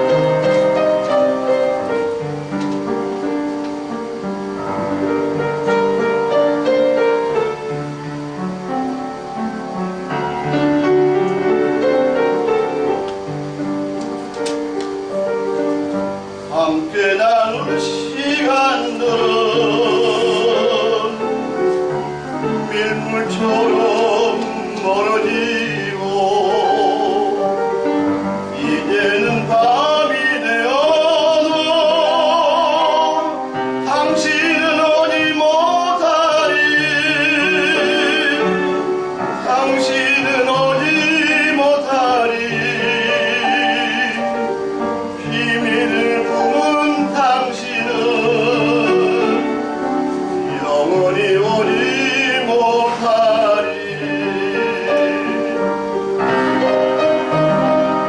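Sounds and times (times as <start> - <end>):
piano accompaniment: 0.0 - 58.0
tenor singing operatically: 0.0 - 58.0.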